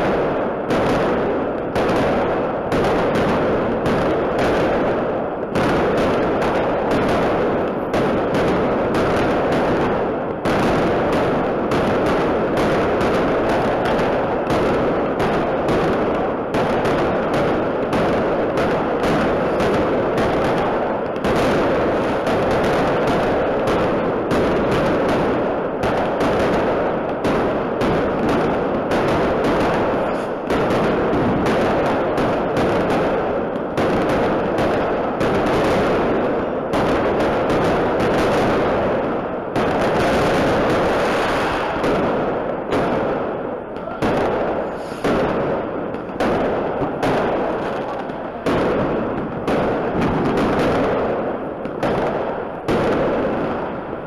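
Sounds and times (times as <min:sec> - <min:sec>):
firework shells bursting: 0:00.0 - 0:53.7.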